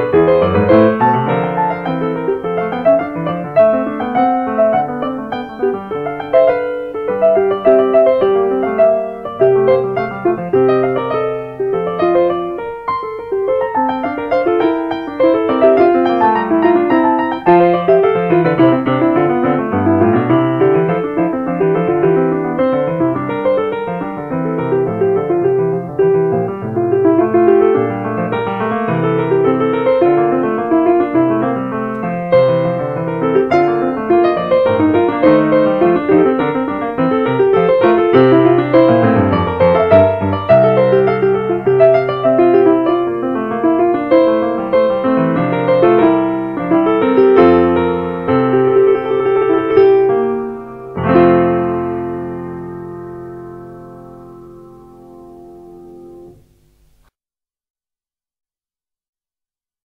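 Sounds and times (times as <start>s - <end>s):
solo piano music: 0.0s - 57.1s.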